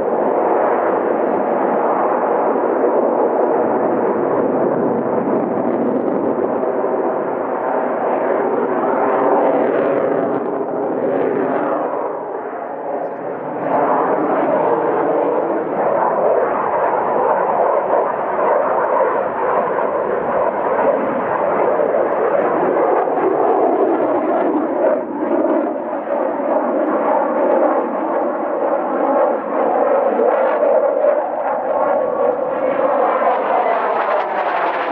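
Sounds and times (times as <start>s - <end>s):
jet engine roar: 0.0s - 34.9s
jet engine whine: 0.0s - 34.9s.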